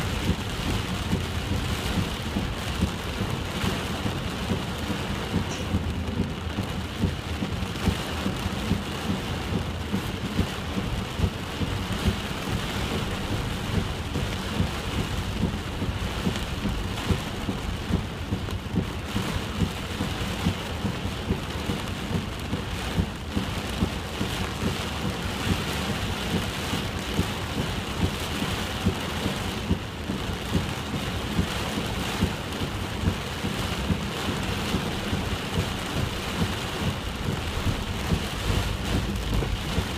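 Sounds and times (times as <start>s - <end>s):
heavy rain pouring: 0.0s - 39.9s
sharp raindrops striking close: 0.0s - 39.9s.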